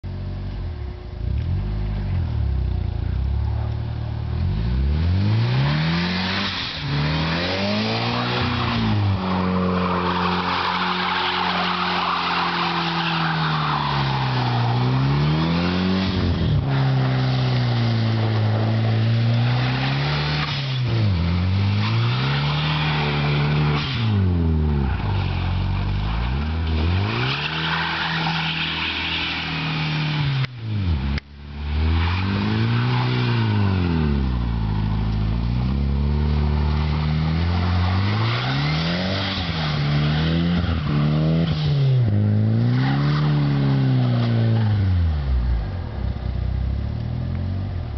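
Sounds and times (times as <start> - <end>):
car engine revving: 0.5 - 47.9
tyres spinning on snow: 5.0 - 30.3, 30.9 - 45.0.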